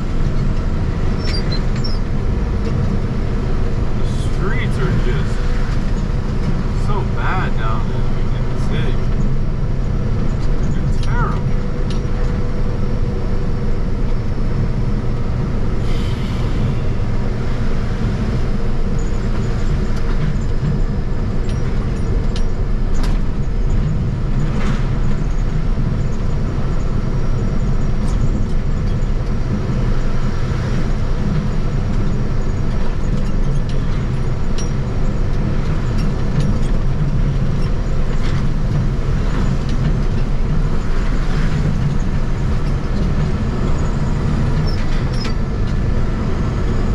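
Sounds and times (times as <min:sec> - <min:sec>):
truck engine and road noise: 0:00.0 - 0:46.9.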